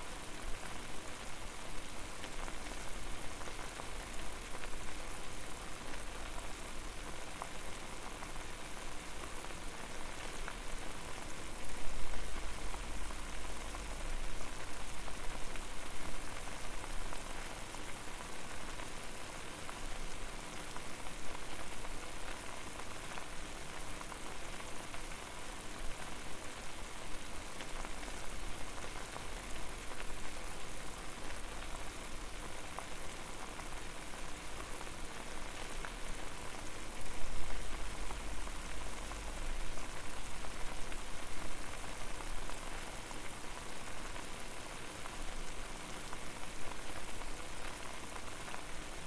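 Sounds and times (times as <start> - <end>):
water boiling: 0.0 - 49.0.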